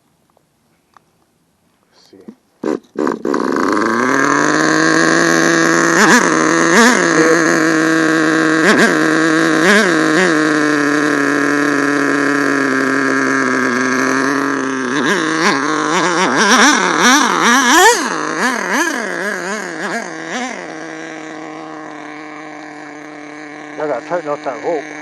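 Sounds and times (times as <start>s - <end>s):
small model engine revving: 2.6s - 25.0s.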